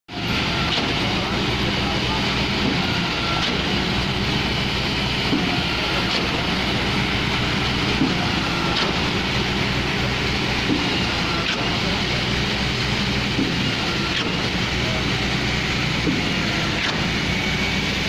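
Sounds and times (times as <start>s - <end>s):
heavy engine running: 0.1s - 18.0s.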